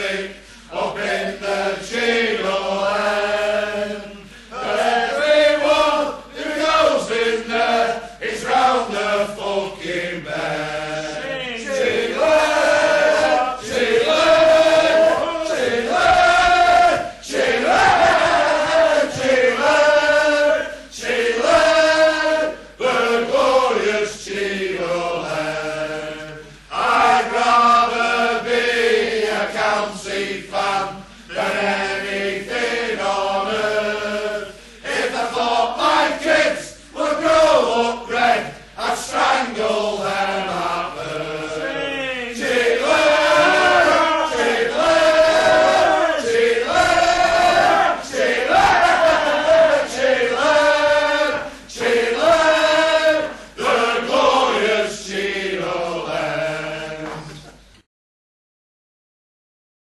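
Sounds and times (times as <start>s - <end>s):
crowd of men chanting: 0.0s - 57.1s.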